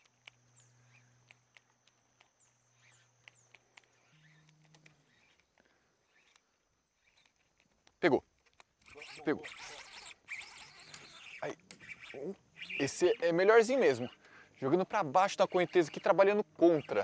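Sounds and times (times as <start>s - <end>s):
faint high bird chirps: 0.0s - 7.4s, 8.9s - 17.0s
faint ticks: 0.0s - 17.0s.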